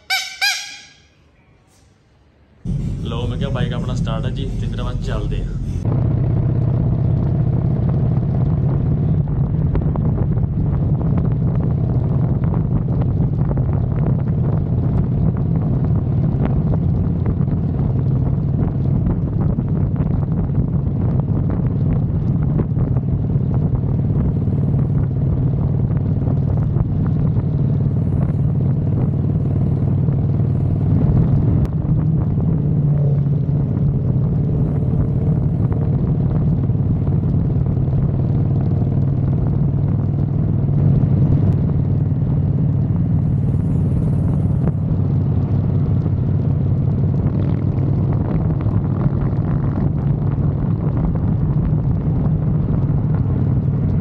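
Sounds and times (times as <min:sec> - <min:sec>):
motorcycle engine running: 0:02.6 - 0:54.0.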